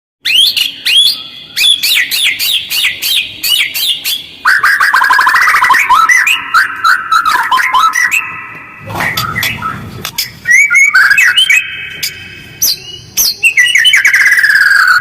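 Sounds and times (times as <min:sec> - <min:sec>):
songbird chattering song: 0:00.2 - 0:15.0.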